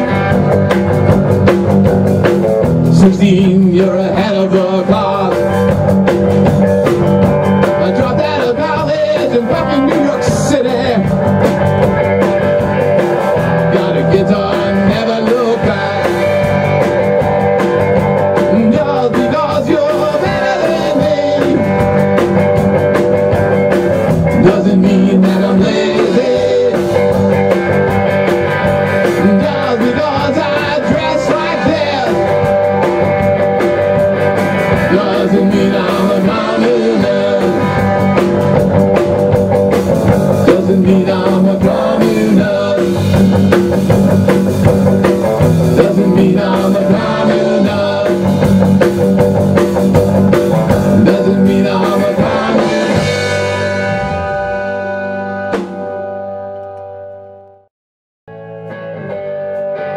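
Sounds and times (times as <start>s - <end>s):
rock band playing live: 0.0s - 57.4s, 58.3s - 59.9s.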